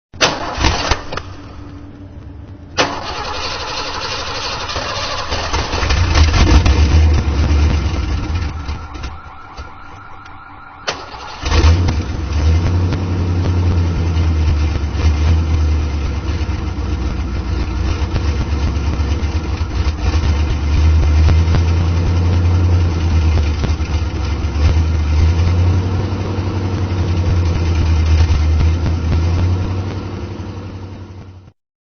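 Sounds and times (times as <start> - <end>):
car engine starting and running: 0.1 - 31.5.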